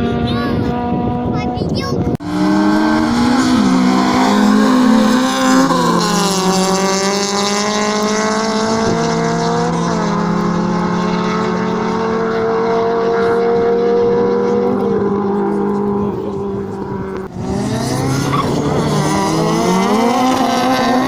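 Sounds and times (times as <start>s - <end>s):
racing car engines high revs: 0.0s - 21.0s.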